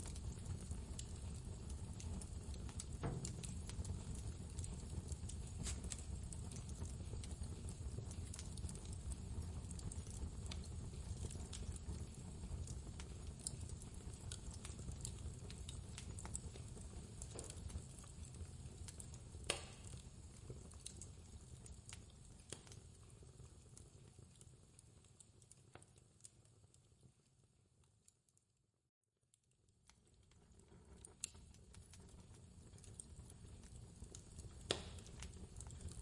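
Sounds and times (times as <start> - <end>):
wood fire crackling: 0.0 - 28.4, 29.3 - 36.0.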